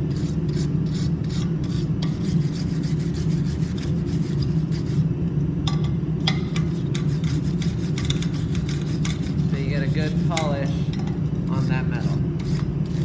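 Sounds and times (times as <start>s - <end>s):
wire brush rasping on steel: 0.0s - 5.0s, 6.4s - 10.8s, 11.5s - 13.0s
steady low hum: 0.0s - 13.0s.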